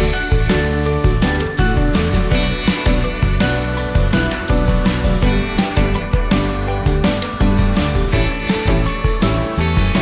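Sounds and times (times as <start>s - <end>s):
intro music with steady beat: 0.0s - 10.0s.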